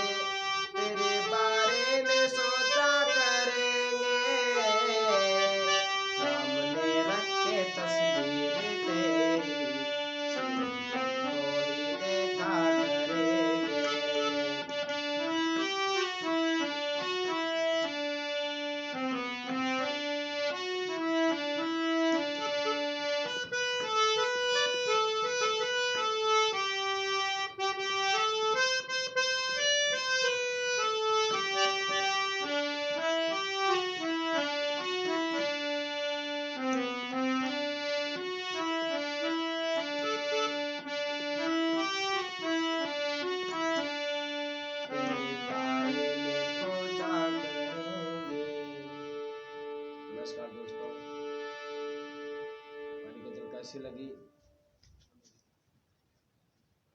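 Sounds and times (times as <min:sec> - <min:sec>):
reedy keyboard melody: 0:00.0 - 0:55.1.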